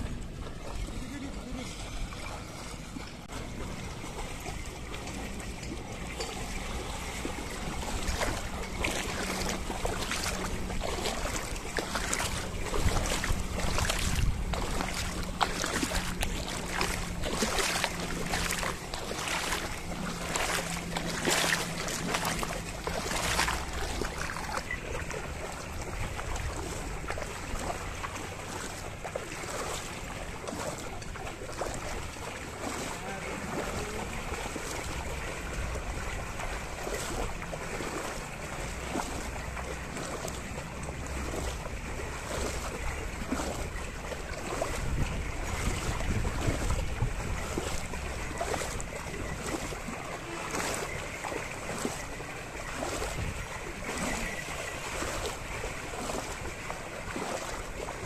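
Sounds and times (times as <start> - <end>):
hooves and plough splashing in water: 0.0 - 58.0.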